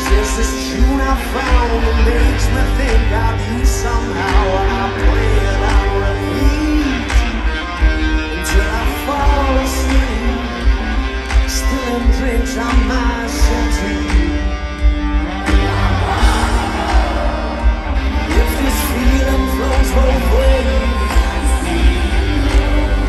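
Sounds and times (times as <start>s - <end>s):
male lead vocal singing: 0.0s - 14.4s, 15.3s - 23.0s
bass guitar: 0.0s - 23.0s
electric guitars: 0.0s - 23.0s
steady drum beat: 0.0s - 23.0s.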